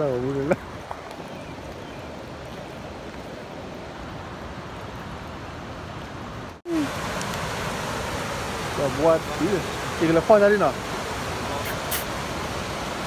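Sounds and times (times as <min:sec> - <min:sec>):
river water rushing: 0:00.0 - 0:13.0
wind: 0:00.0 - 0:13.0.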